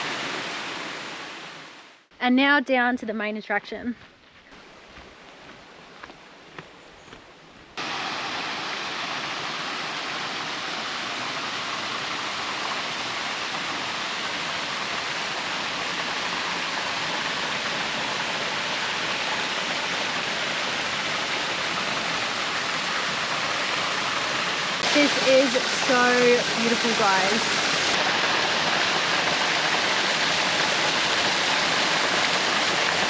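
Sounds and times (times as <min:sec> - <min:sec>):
waterfall rushing: 0:00.0 - 0:01.8, 0:07.8 - 0:33.0.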